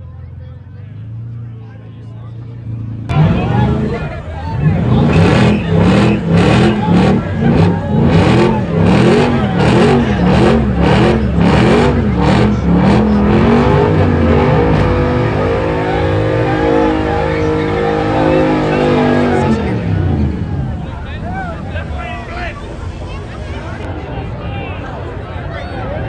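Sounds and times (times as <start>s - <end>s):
vehicle engine revving: 2.8s - 23.9s.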